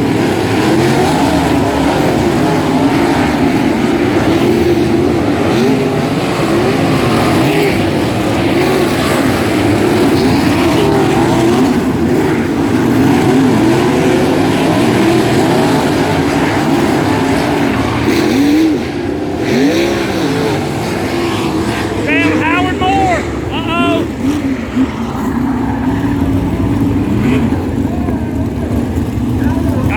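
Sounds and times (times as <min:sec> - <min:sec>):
racing car engines: 0:00.0 - 0:29.9.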